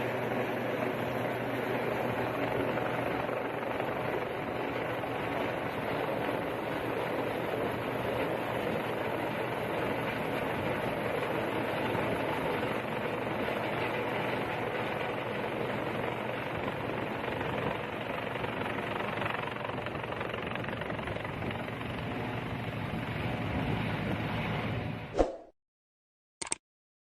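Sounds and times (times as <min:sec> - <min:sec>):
helicopter engine and rotor noise: 0:00.0 - 0:25.1.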